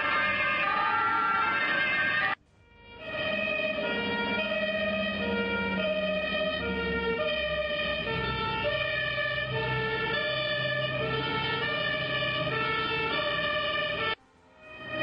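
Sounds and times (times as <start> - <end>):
two-tone emergency sirens: 0.0 - 15.0.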